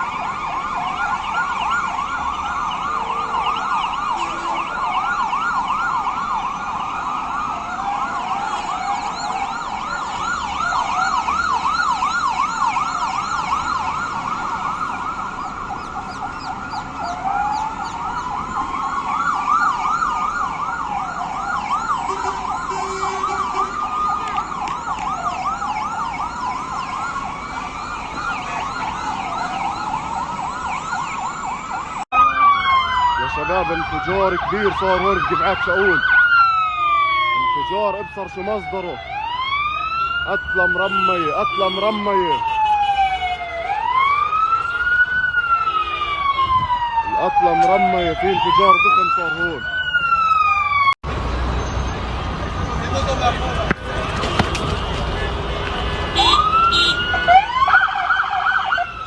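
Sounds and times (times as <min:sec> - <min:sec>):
siren wailing: 0:00.0 - 0:51.0, 0:51.6 - 0:59.0
sirens yelping: 0:00.0 - 0:59.0.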